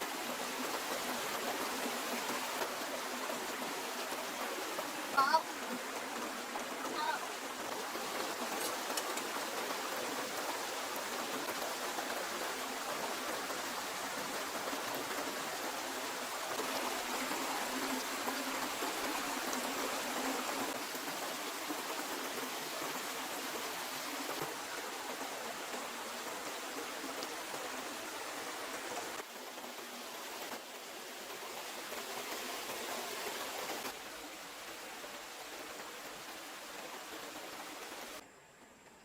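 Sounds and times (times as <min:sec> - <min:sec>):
rushing water: 0:00.0 - 0:38.2.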